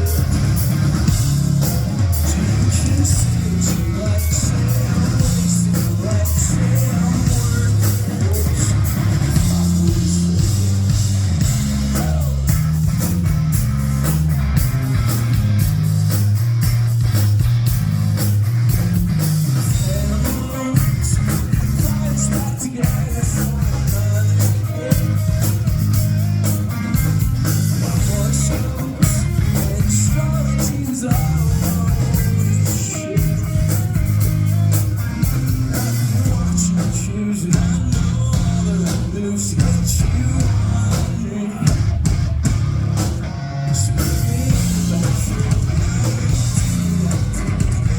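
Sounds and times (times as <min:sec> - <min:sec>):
bass guitar: 0:00.0 - 0:47.9
drum kit: 0:00.0 - 0:47.9
electric guitars: 0:00.0 - 0:47.9.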